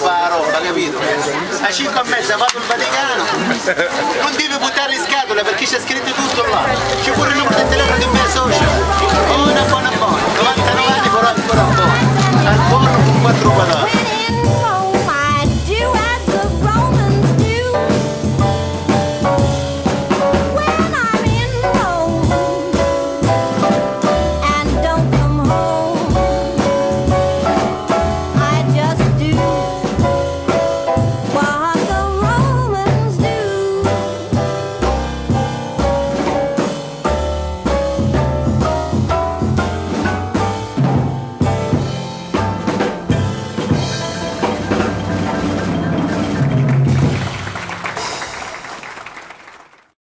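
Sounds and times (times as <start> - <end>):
upbeat music with drums and bass: 6.2 - 48.8.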